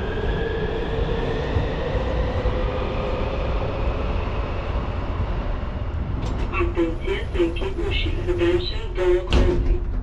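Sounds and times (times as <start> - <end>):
elevator low rumble: 0.0 - 10.0.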